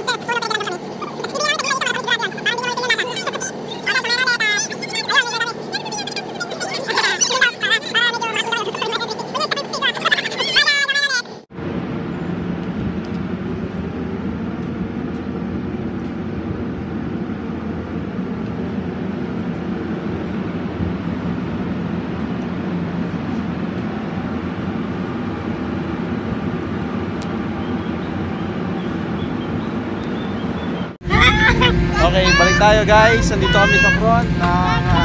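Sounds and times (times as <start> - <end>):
ship engines droning: 0.0 - 35.0.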